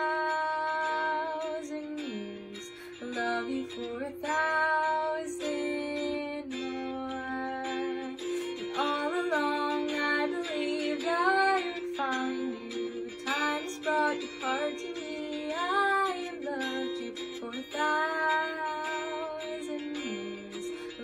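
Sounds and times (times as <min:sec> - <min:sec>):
instrumental accompaniment: 0:00.0 - 0:21.0
woman singing: 0:00.0 - 0:21.0.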